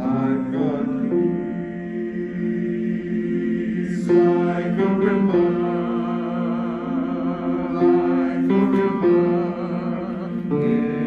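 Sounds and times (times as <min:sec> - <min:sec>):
two men singing in harmony: 0:00.0 - 0:11.0.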